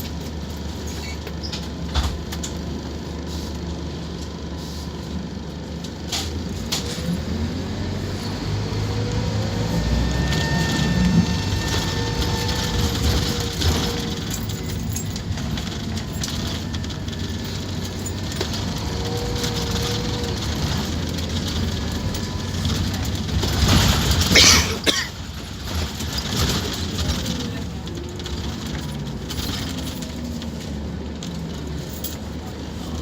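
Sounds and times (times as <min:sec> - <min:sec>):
bus engine and road noise: 0:00.0 - 0:33.0.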